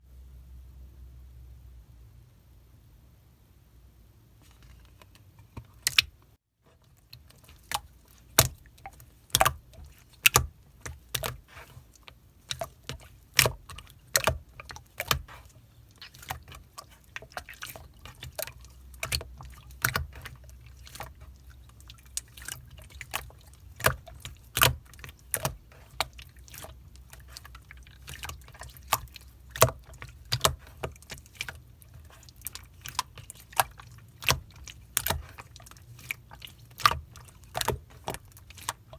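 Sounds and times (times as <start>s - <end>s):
slime squeezed with wet pops: 5.8s - 6.2s, 7.0s - 38.9s.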